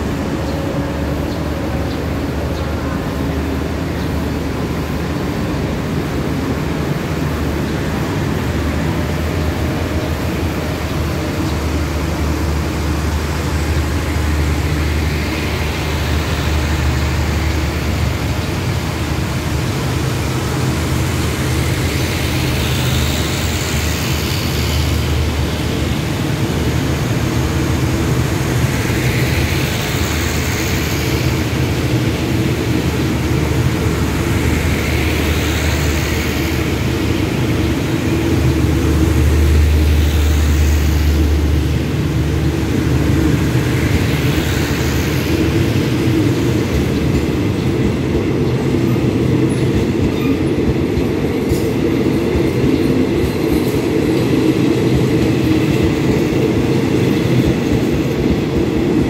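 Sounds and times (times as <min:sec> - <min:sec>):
diesel train engine drone: 0:00.0 - 0:59.0
hissing wheel and rail noise: 0:00.0 - 0:59.0.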